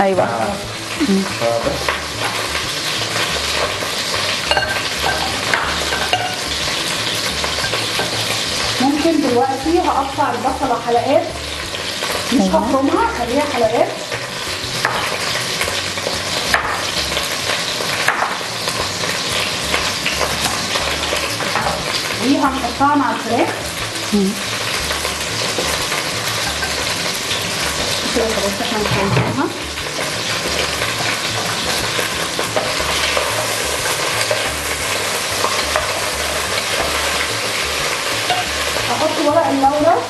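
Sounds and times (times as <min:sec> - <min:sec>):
food sizzling in hot oil: 0:00.0 - 0:40.0.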